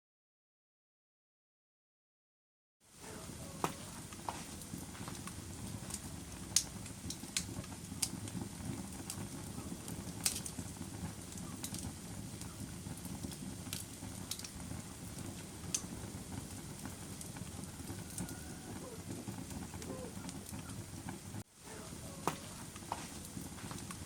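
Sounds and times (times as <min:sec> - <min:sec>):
low rumble of flames: 0:02.8 - 0:24.0
wood fire crackling: 0:02.8 - 0:24.0
wood fire popping: 0:02.9 - 0:24.0.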